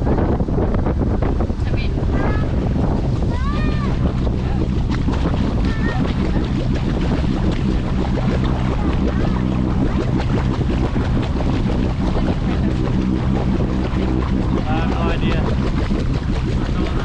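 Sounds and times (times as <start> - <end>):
boat engine humming: 0.0 - 17.0
water noise: 0.0 - 17.0
wind: 0.0 - 17.0.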